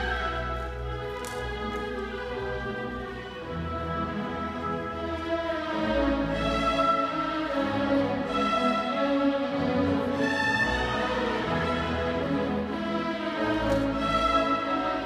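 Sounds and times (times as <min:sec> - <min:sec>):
orchestral strings music: 0:00.0 - 0:15.0.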